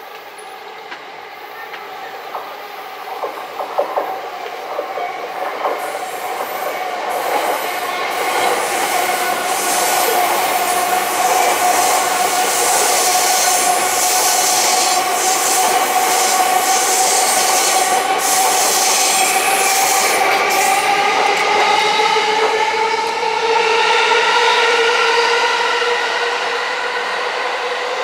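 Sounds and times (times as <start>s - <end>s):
electric train whine: 0.0s - 28.0s
train rolling on rails: 0.0s - 28.0s.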